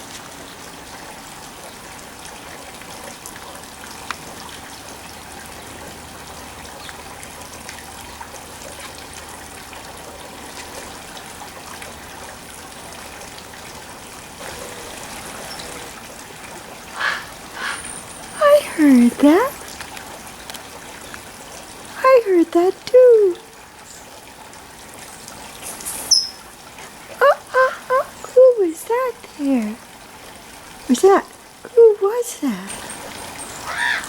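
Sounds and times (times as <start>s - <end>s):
water trickling: 0.0s - 34.0s.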